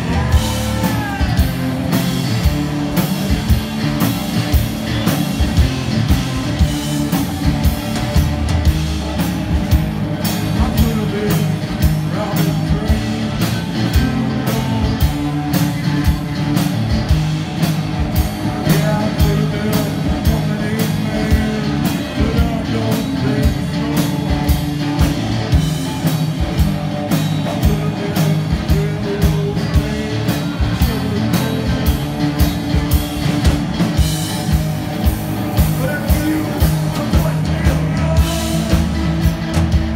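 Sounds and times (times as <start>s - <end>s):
amplified electric guitar: 0.0s - 39.9s
drum kit beat: 0.0s - 39.9s.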